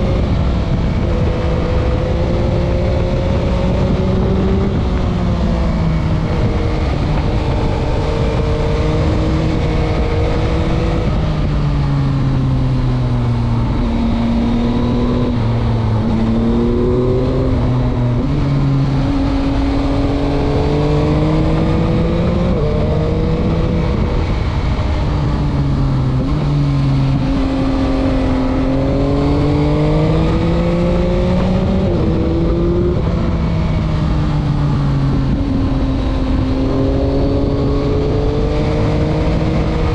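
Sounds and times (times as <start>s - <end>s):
motorcycle engine revving: 0.0s - 39.9s
road noise: 0.0s - 39.9s
wind noise: 0.0s - 39.9s.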